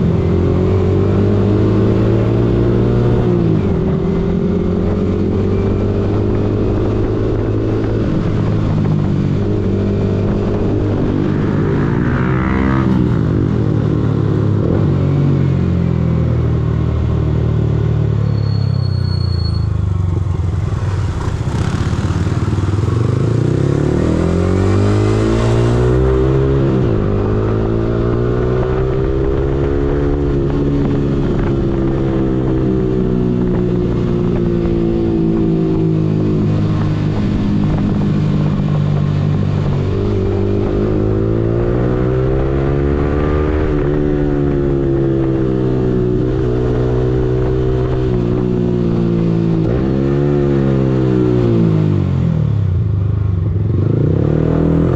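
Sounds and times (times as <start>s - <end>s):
motorcycle engine revving through gears: 0.0s - 54.9s.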